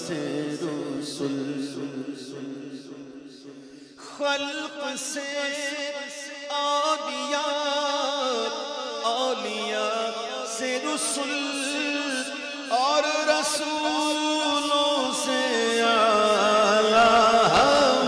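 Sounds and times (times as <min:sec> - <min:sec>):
man singing devotional verse: 0:00.0 - 0:18.0.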